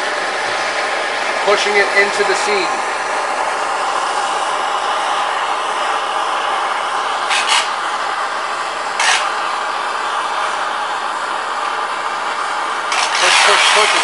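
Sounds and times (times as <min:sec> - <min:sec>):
gas torch flame hissing: 0:00.0 - 0:14.0
sharp torch bursts: 0:00.0 - 0:14.0.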